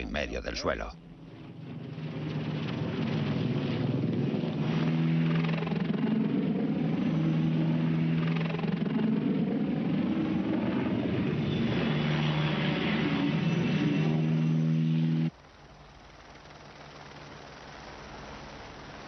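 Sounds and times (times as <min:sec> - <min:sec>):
helicopter flying low: 0:00.0 - 0:19.0.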